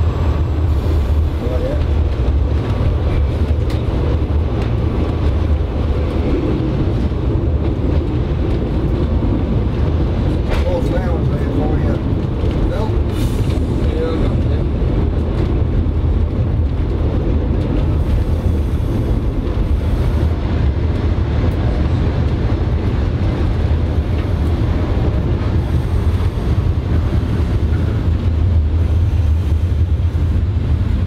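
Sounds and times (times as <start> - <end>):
railcar diesel engine rumble: 0.0 - 31.0.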